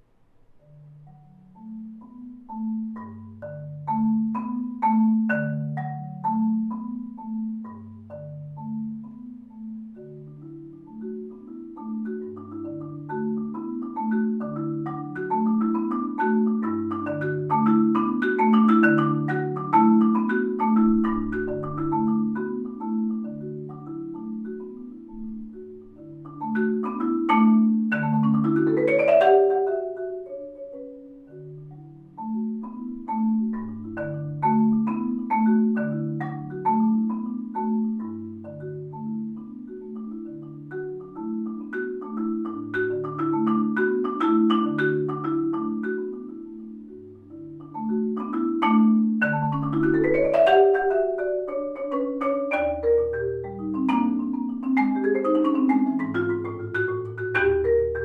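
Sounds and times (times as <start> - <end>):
marimba played with mallets: 0.0 - 58.0.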